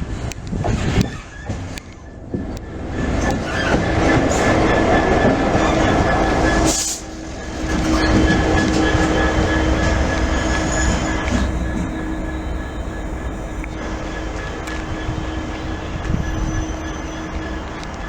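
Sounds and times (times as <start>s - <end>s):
train wheels rumbling on rails: 0.0s - 18.0s
train whine: 0.0s - 18.0s.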